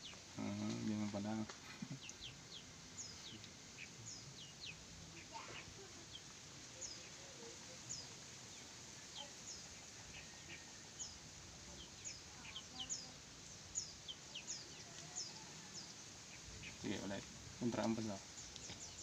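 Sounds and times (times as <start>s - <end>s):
faint chirping of small birds: 0.0s - 19.0s.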